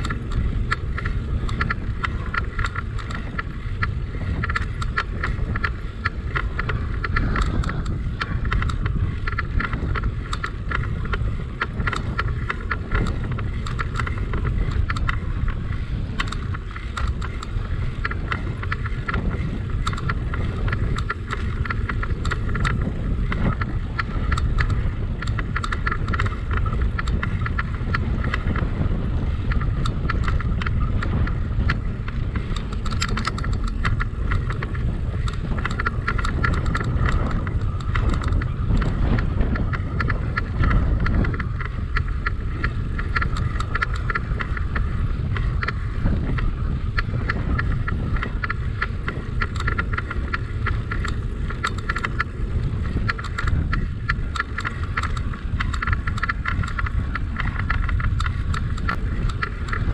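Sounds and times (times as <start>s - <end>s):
bicycle tyres rumbling on path: 0.0s - 59.9s
bike clicks and rattles: 0.0s - 59.9s
wind buffeting microphone: 0.0s - 59.9s.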